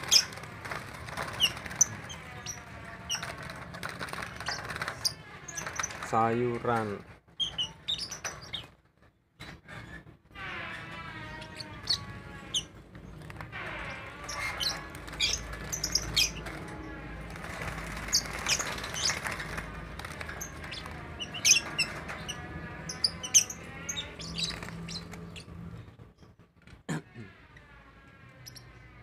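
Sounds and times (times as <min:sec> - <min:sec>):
lovebirds chirping and squawking: 0:00.0 - 0:06.2, 0:07.3 - 0:26.4.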